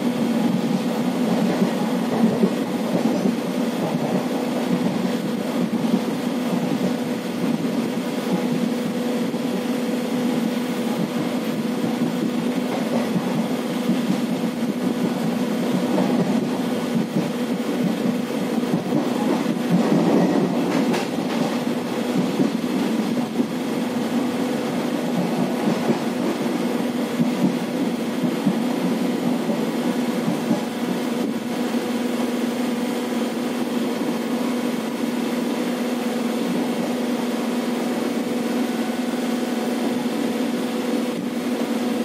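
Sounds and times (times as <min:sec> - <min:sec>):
steady train hum: 0:00.0 - 0:42.0
train wheels rumbling on rails: 0:00.0 - 0:42.0.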